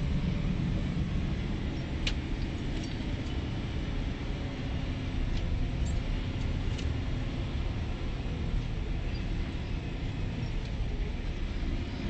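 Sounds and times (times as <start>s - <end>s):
truck engine and road drone: 0.0s - 12.0s.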